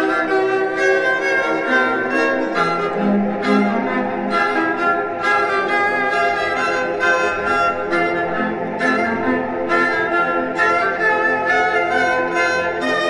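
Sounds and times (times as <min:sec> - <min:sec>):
bowed strings music: 0:00.0 - 0:13.0.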